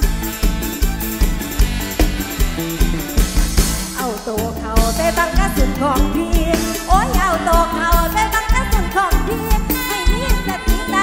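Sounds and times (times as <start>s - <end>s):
live band playing dance tune: 0.0s - 11.0s.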